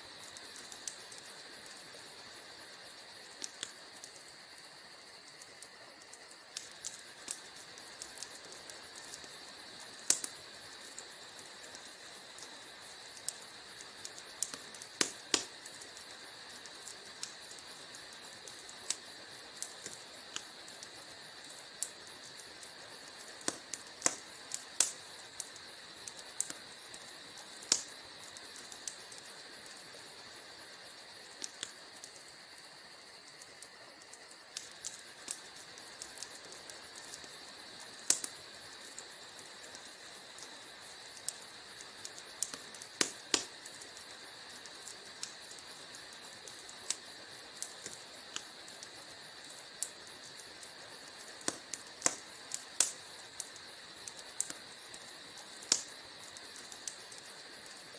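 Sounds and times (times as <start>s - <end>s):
soft steady fire hiss: 0.0s - 57.9s
wood fire crackling and popping: 0.0s - 57.9s.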